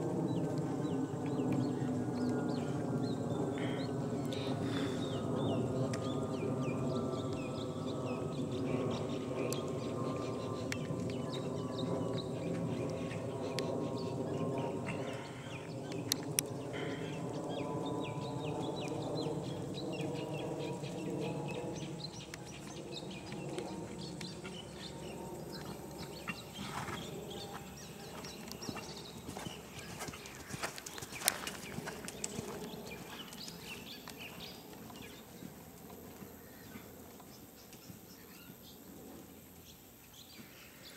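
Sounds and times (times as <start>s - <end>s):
horse hooves trotting on sand: 0.0s - 3.4s, 7.2s - 40.6s.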